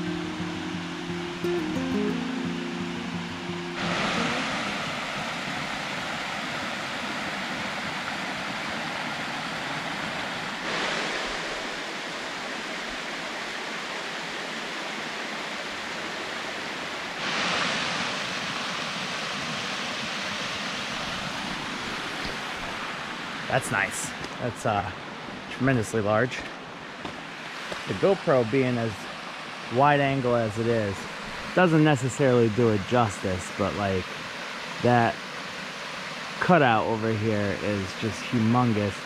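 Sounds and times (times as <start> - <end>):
waterfall rushing: 0.0 - 26.1, 26.8 - 39.0.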